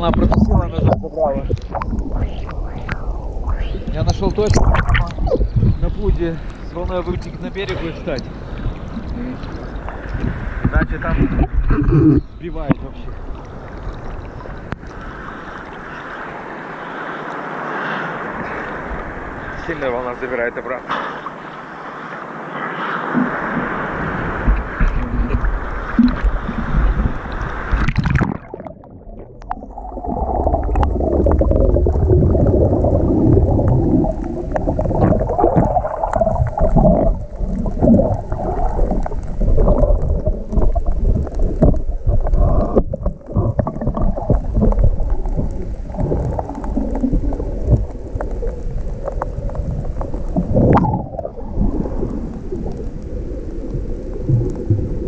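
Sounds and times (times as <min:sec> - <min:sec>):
muffled surf churning: 0:00.0 - 0:55.0.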